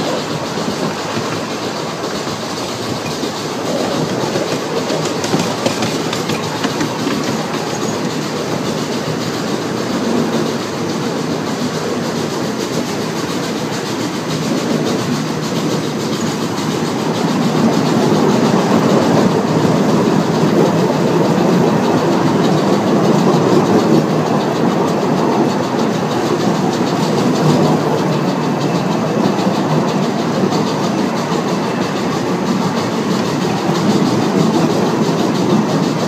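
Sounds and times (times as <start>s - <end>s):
steam train wheels on rails: 0.0s - 36.0s.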